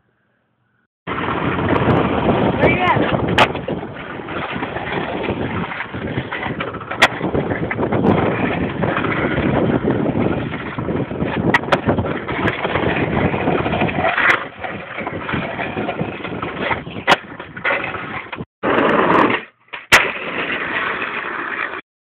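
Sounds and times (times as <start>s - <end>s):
skateboard wheels rolling on asphalt: 1.0s - 21.8s
skateboard clacks: 1.1s - 21.8s.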